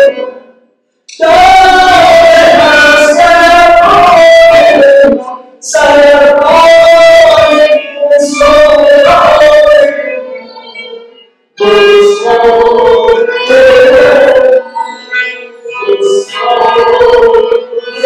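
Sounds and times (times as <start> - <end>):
person singing with music: 0.0 - 18.0.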